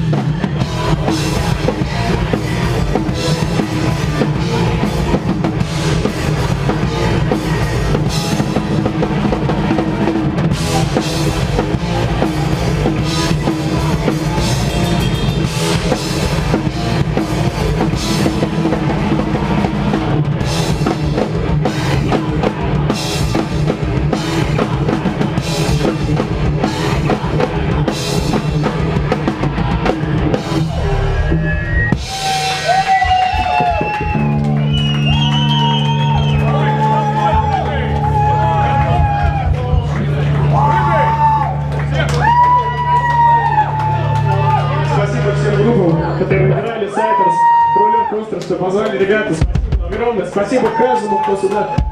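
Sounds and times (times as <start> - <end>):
pounding drum kit: 0.0 - 46.6, 47.2 - 51.9
rock band playing loudly: 0.0 - 51.9.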